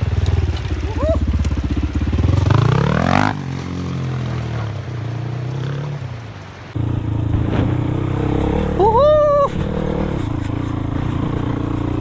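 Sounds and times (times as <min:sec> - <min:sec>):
motorcycle engine revving: 0:00.0 - 0:06.1, 0:06.8 - 0:12.0.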